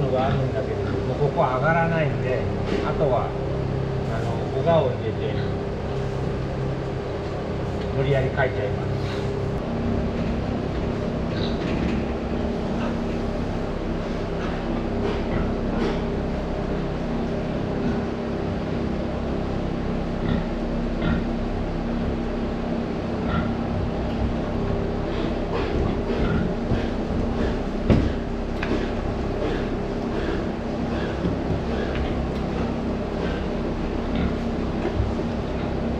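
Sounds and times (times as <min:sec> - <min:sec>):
machine drone with low hum: 0:00.0 - 0:35.9.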